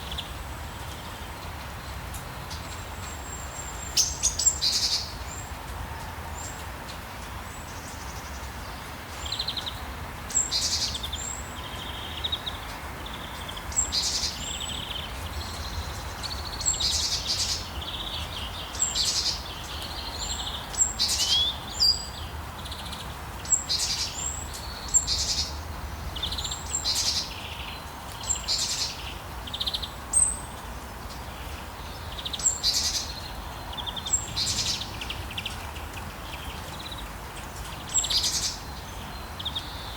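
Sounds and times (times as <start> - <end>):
birds chirping: 7.5 - 39.9.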